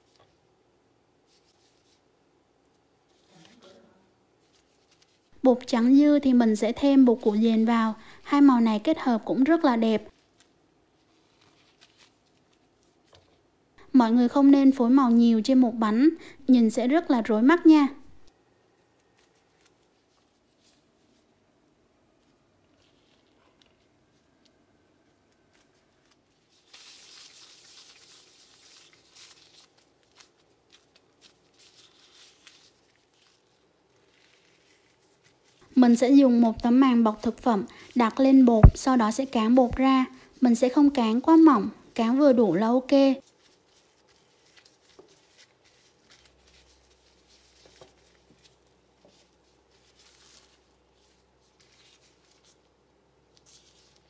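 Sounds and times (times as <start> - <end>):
plastic gloves crinkling: 0.0 - 54.0
plastic cling film rustling: 1.2 - 54.0.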